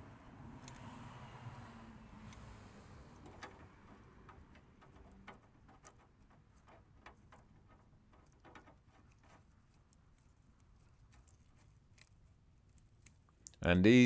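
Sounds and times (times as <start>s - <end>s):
faint metal clicks and ticks: 0.6s - 0.9s, 2.2s - 13.6s.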